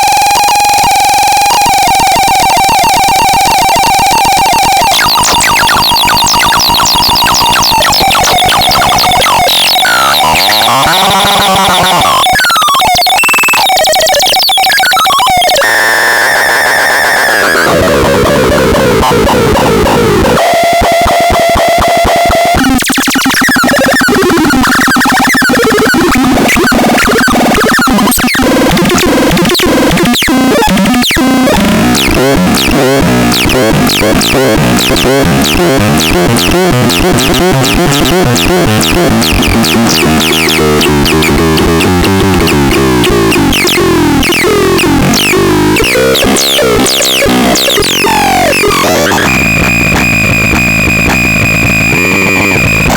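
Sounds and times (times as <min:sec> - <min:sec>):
falling electronic chirps: 0:00.0 - 0:52.9
synthesized sound effects: 0:01.5 - 0:52.9.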